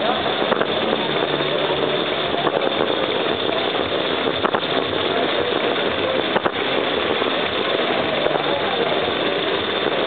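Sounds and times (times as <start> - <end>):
model train rolling rumble: 0.0 - 10.0.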